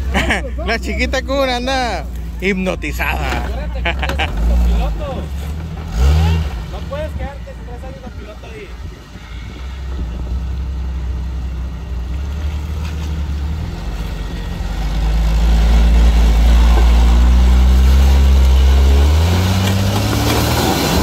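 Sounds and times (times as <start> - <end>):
truck engine revving: 0.0 - 8.1, 8.8 - 21.0.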